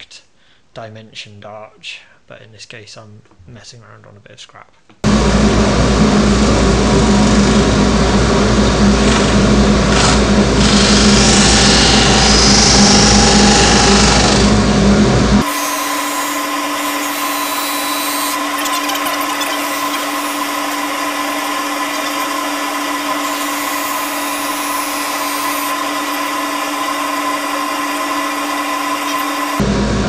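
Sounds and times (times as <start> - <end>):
disc sander humming: 5.0 - 30.0.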